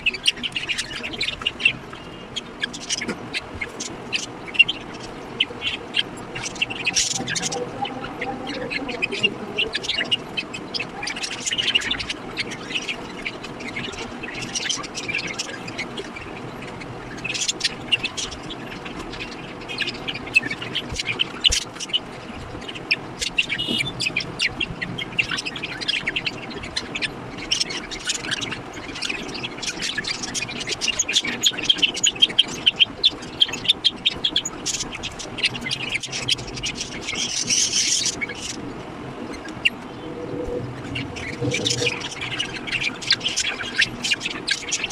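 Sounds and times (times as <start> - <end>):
budgerigars chirping: 0.0 - 39.9, 40.8 - 44.9.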